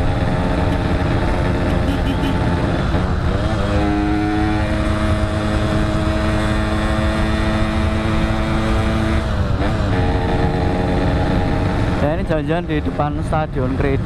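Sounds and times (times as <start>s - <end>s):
motorcycle engine cruising: 0.0s - 14.0s
wind and road rumble: 0.0s - 14.0s.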